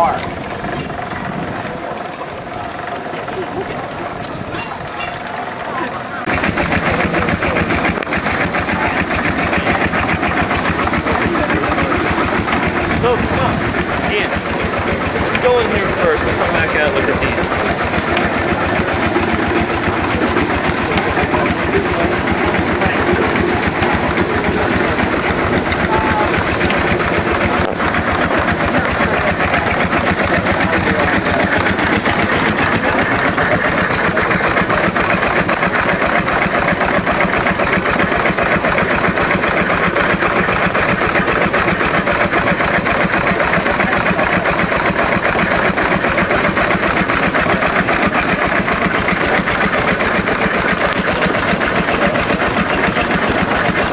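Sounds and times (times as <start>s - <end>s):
steam engine mechanical beat: 0.0s - 53.9s.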